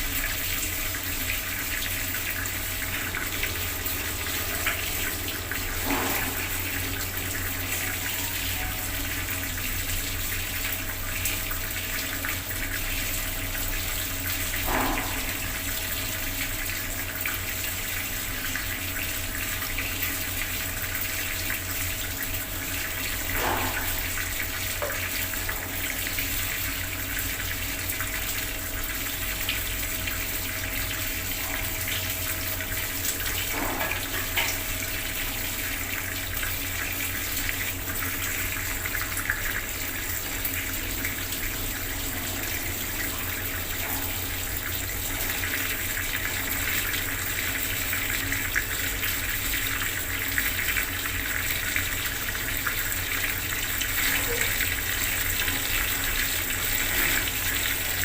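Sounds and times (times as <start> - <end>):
water tap running into basin: 0.0 - 58.0.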